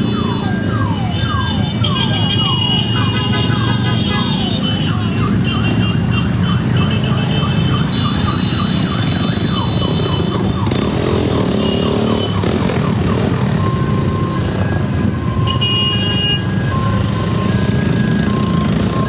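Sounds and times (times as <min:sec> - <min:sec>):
electronic siren chirps: 0:00.0 - 0:19.0
steady high alarm tones: 0:00.0 - 0:19.0
vehicle engines rumbling: 0:00.0 - 0:19.0.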